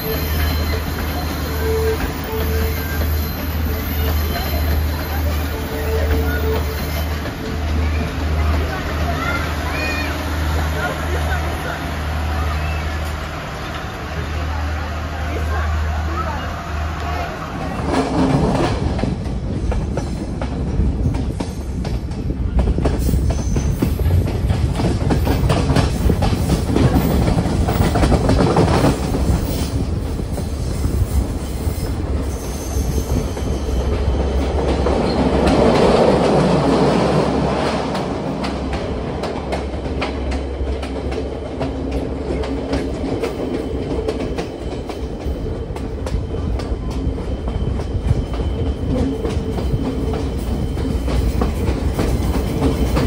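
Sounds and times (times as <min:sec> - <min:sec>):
clickety-clack of rail joints: 0:00.0 - 0:11.8, 0:16.9 - 0:53.0
train wheels rumbling on rail: 0:00.0 - 0:53.0.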